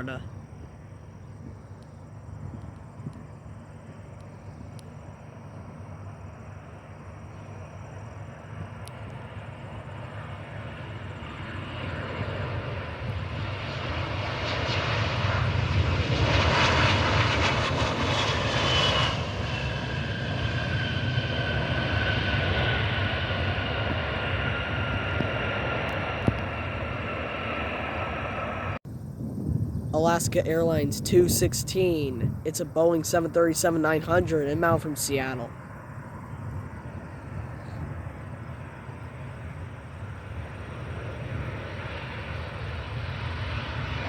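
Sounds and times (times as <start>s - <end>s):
jet airliner passing: 0.0s - 44.0s.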